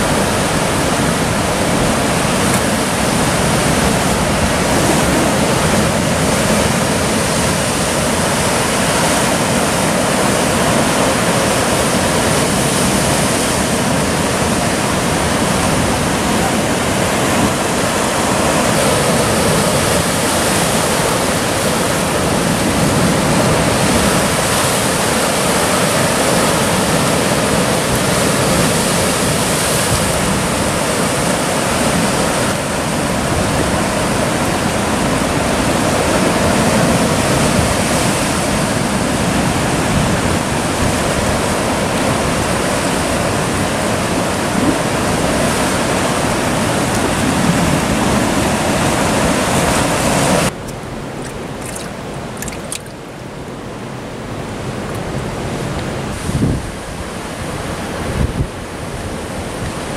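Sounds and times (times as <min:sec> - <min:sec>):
sea surf breaking on boulders: 0:00.0 - 0:59.9.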